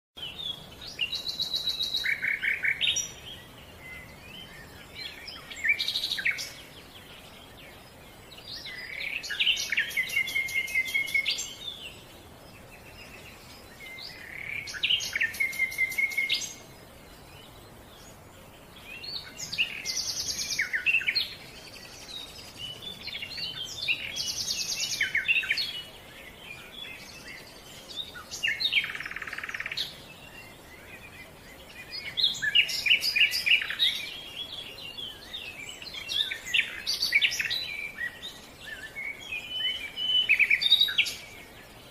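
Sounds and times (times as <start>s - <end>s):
songbird singing trills: 0.2s - 41.9s.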